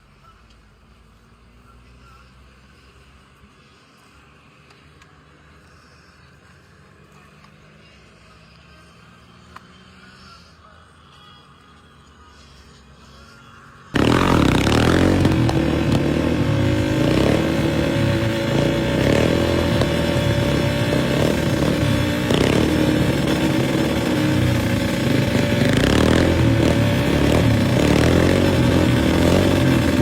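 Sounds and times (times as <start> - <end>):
atv engine with throttle blips: 0.0 - 30.0.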